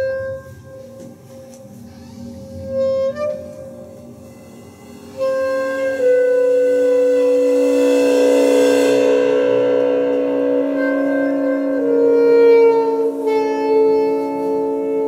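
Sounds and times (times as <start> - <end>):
bowed cymbal ringing drone: 0.0 - 15.0
clarinet long held notes: 0.0 - 15.0.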